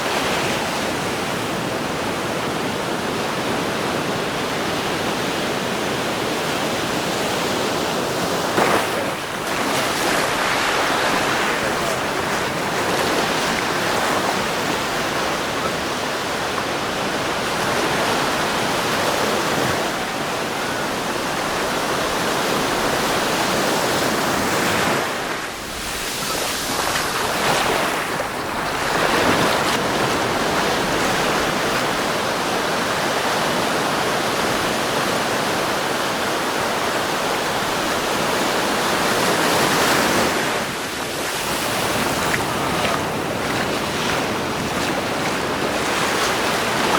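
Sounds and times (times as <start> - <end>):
waves breaking on a beach: 0.0 - 46.9.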